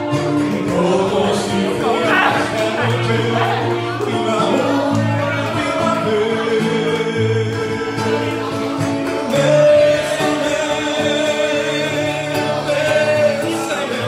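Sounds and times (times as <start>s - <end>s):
acoustic guitar: 0.0s - 14.0s
man singing into microphone: 0.0s - 14.0s.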